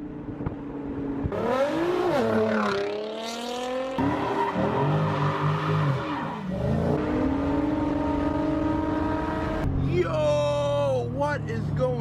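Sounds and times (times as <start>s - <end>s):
car engines revving: 0.2s - 12.0s.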